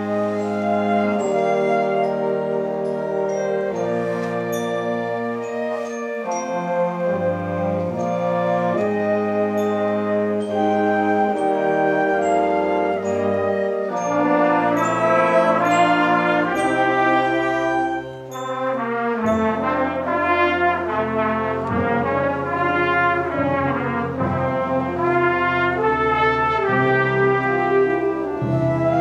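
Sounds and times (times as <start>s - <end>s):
concert band playing: 0.0s - 29.0s.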